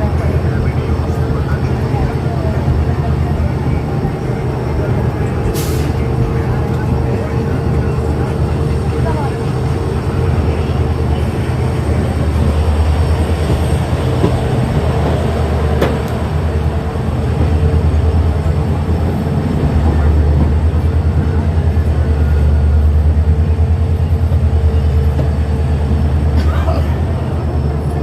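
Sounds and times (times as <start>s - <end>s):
diesel locomotive engine humming: 0.0s - 28.0s.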